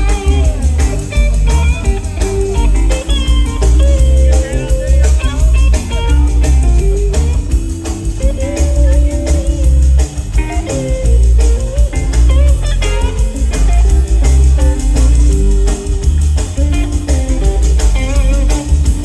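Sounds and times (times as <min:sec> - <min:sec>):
electric guitar lead lines: 0:00.0 - 0:19.0
live rock band playing: 0:00.0 - 0:19.0.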